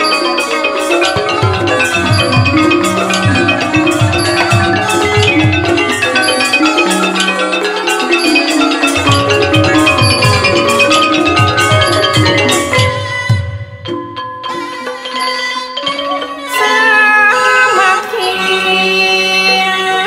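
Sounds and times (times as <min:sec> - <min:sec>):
xylophones and gong circles: 0:00.0 - 0:20.0.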